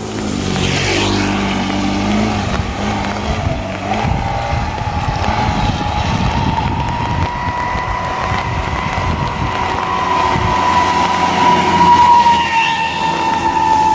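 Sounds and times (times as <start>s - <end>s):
rising whine: 0.0s - 13.9s
vehicle engine running: 0.0s - 13.9s.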